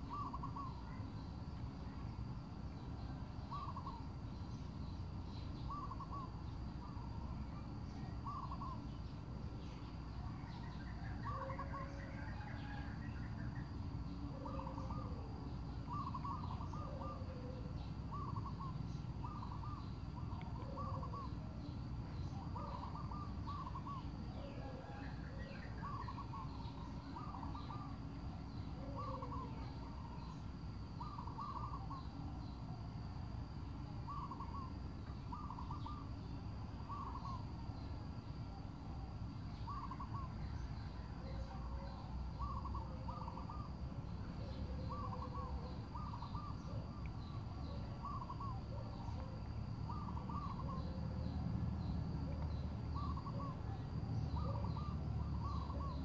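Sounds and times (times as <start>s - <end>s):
birds hooting: 0.0s - 1.1s, 3.4s - 4.2s, 5.6s - 7.1s, 7.9s - 8.9s, 10.4s - 32.8s, 34.0s - 56.0s.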